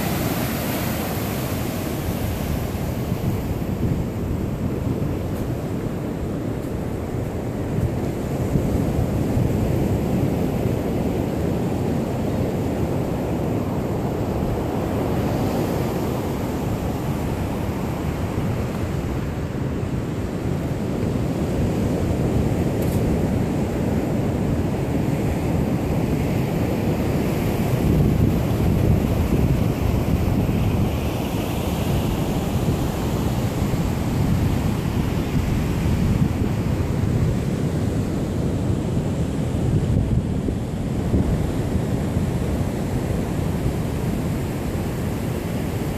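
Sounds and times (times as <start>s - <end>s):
ocean surf: 0.0s - 45.9s
wind buffeting microphone: 0.0s - 45.9s.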